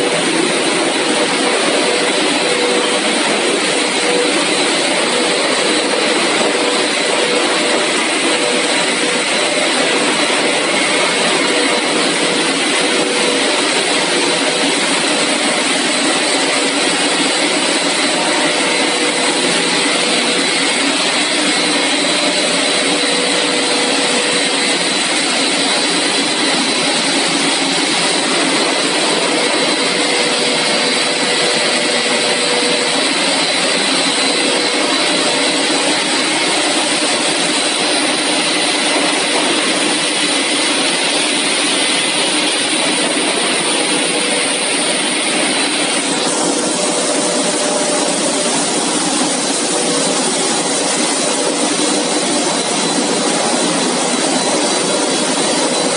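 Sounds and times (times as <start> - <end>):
extrusion line motors humming: 0.0 - 55.9.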